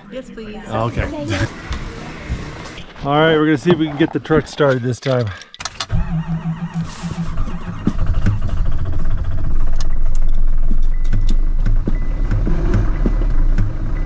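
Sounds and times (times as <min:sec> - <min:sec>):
truck engine revving: 0:00.8 - 0:04.6, 0:05.9 - 0:14.0.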